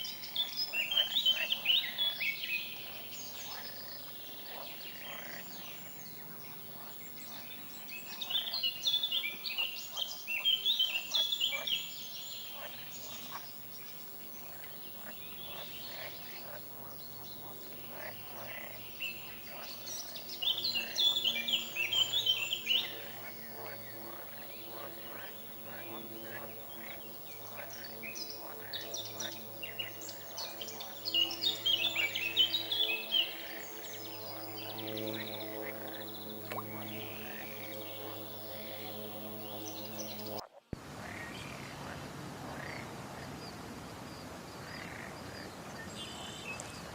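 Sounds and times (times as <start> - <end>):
high background animal calls: 0.0 - 40.5
frogs droning: 0.0 - 43.3, 44.1 - 46.9
songbirds chirping: 0.0 - 46.9.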